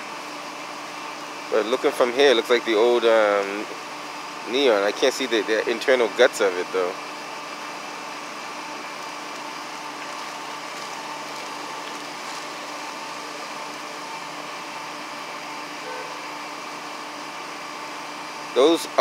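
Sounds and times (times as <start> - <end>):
mechanical whir and hum: 0.0 - 19.0.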